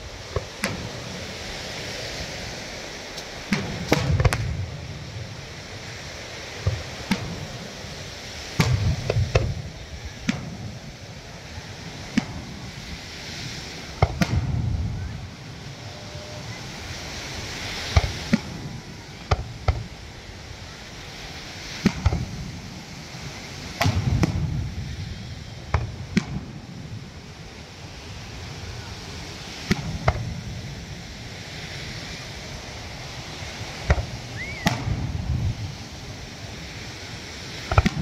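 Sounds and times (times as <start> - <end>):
fireworks bangs: 0.0 - 38.0
steady background noise: 0.0 - 38.0.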